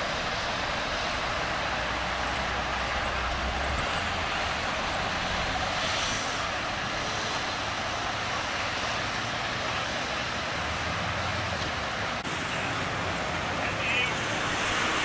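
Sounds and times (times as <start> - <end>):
freeway traffic passing: 0.0 - 15.0.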